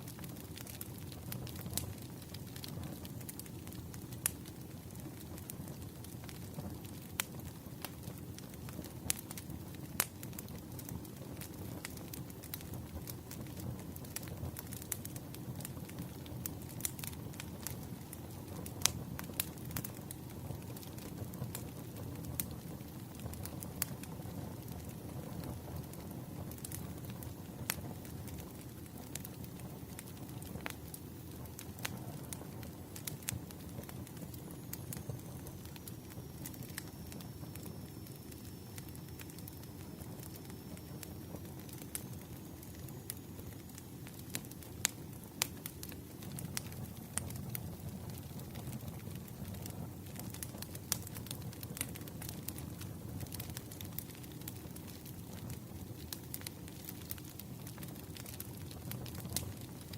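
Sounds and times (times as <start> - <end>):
burning wood crackling and popping: 0.0 - 59.9
campfire flames rumbling: 0.0 - 59.9.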